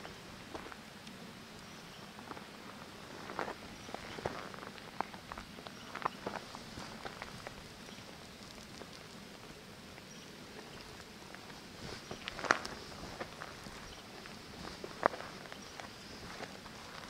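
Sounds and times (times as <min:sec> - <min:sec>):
footsteps on rocky gravel: 0:00.5 - 0:00.8, 0:02.2 - 0:09.2, 0:10.0 - 0:17.0.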